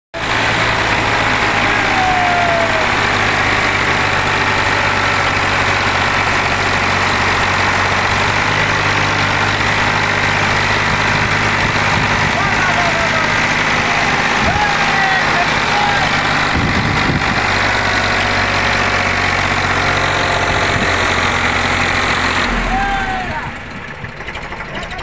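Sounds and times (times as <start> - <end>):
tractor diesel engine straining: 0.1 - 25.0.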